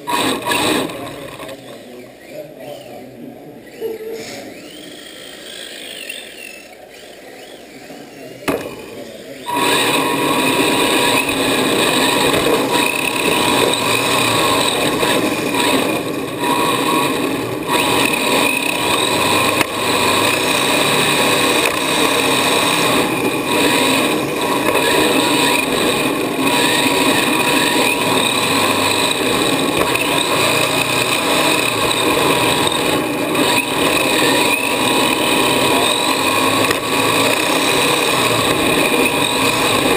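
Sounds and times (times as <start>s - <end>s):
rc car motor whining: 0.0s - 39.9s.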